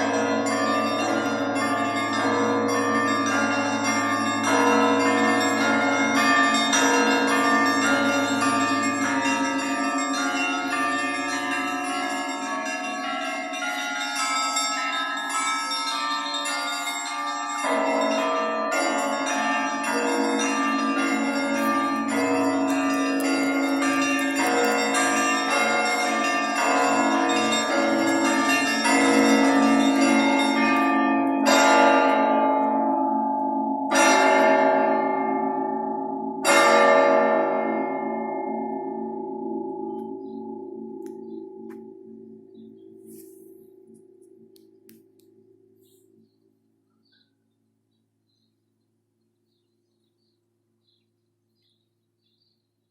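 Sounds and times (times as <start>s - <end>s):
church bells pealing: 0.0s - 43.2s.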